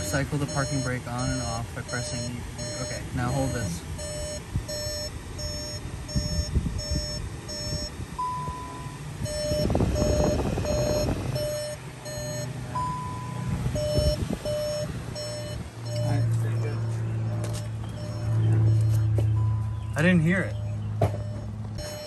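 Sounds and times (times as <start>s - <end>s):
car warning chime beeping: 0.0s - 22.0s
longer higher warning tone: 0.0s - 22.0s.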